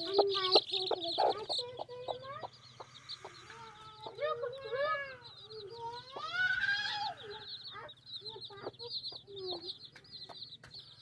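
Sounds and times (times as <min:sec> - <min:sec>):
hen clucking: 0:00.0 - 0:10.9
chicks peeping: 0:00.0 - 0:11.0.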